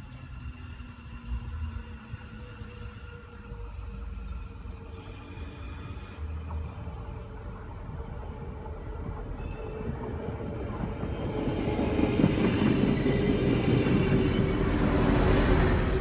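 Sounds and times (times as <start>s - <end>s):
train passing close: 0.0s - 16.0s.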